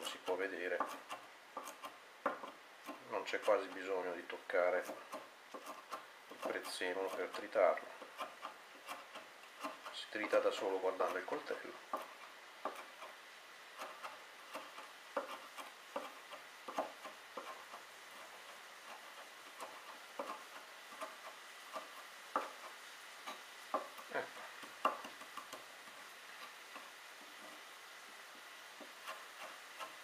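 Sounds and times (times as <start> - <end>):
knife chopping on wooden board: 0.8 - 3.7, 4.8 - 13.2, 13.8 - 25.6, 28.8 - 30.0.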